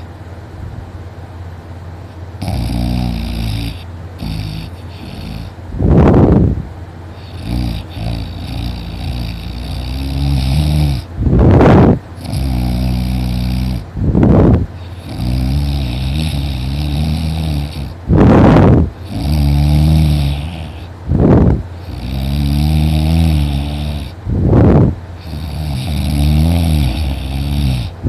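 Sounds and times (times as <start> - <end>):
low buzzing breath: 2.0 - 28.0
harsh rasping snores: 2.4 - 5.6, 7.2 - 28.0.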